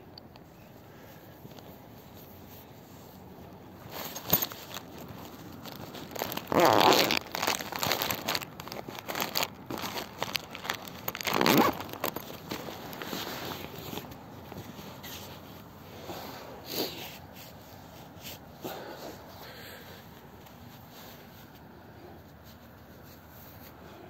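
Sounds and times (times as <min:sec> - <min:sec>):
rustling and handling noises: 0:00.2 - 0:24.0.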